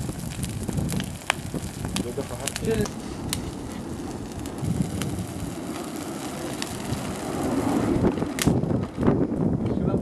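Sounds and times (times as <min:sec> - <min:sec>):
fire crackles: 0:00.0 - 0:10.0
flames rushing: 0:00.0 - 0:10.0
wind on microphone: 0:00.0 - 0:10.0.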